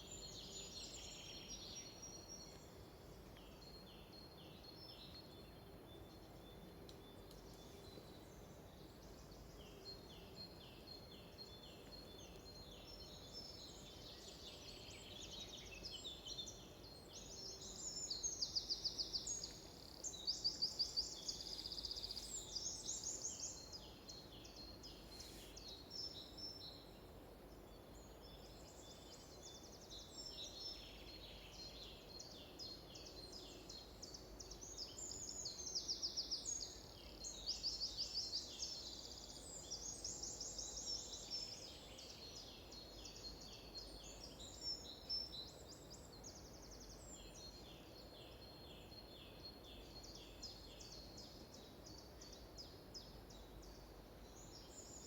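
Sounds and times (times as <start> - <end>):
wild birds singing: 0.0 - 55.0.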